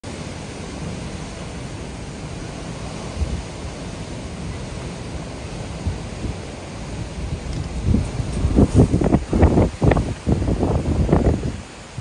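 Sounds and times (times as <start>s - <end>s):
strong wind rushing: 0.2s - 12.0s
wind buffeting microphone: 0.2s - 12.0s.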